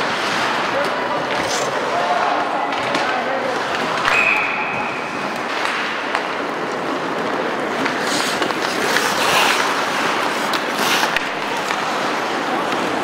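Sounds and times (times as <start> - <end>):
hockey sticks clicking: 0.0 - 13.0
rink background noise: 0.0 - 13.0
skates scraping ice: 0.0 - 13.0.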